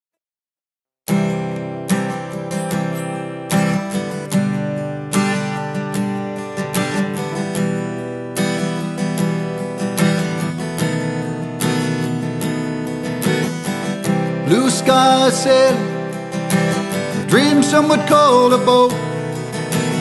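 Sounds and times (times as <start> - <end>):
acoustic guitar strumming: 1.1 - 20.0.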